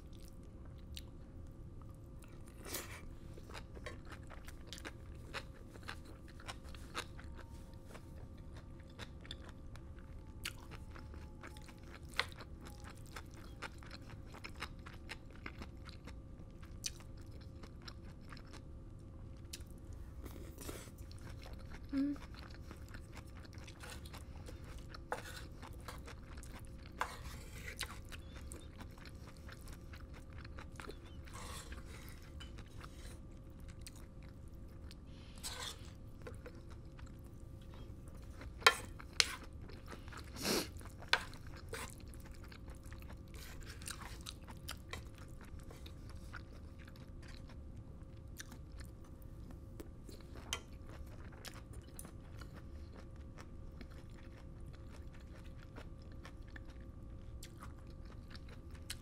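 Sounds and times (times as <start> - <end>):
chewing food: 0.0 - 59.0
faint steady hum: 0.0 - 59.0.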